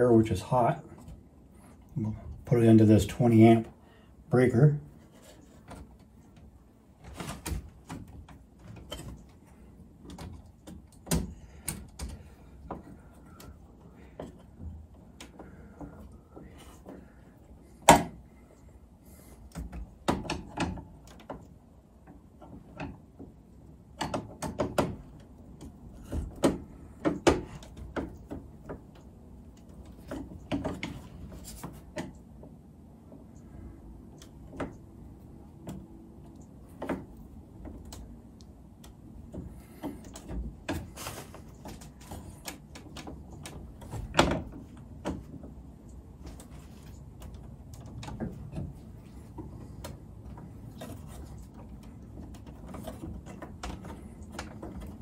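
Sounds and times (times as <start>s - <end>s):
screwdriver and wire on metal panel: 0.0s - 55.0s.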